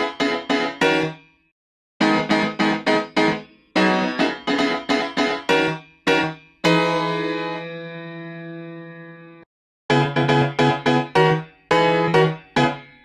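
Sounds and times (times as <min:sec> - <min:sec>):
piano playing repeated chords: 0:00.0 - 0:01.4, 0:02.0 - 0:13.0.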